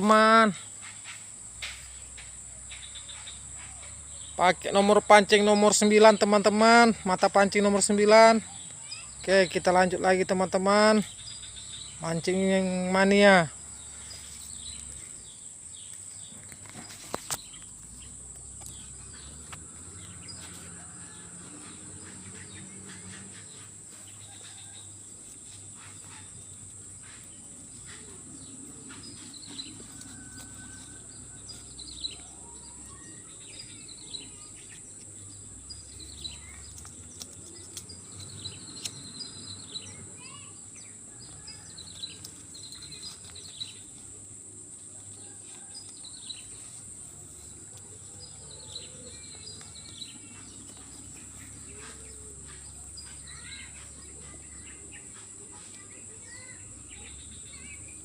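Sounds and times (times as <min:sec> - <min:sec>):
bird chirps: 0:00.0 - 0:07.2, 0:07.8 - 0:58.0
crickets droning: 0:00.0 - 0:58.0.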